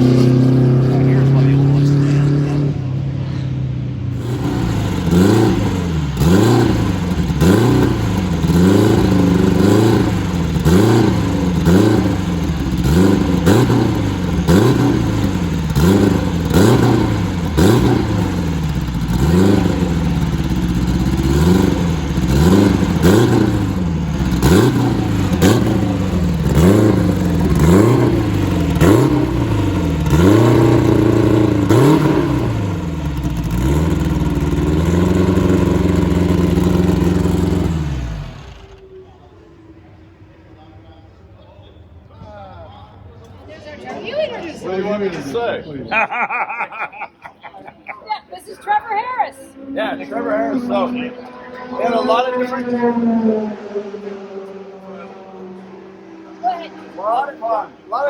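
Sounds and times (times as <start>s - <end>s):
race car engine revving: 0.0s - 38.9s, 48.7s - 58.0s.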